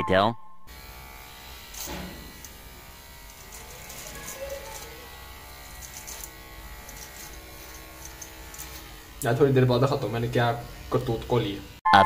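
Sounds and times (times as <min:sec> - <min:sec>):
faint electrical buzz: 0:00.7 - 0:11.8.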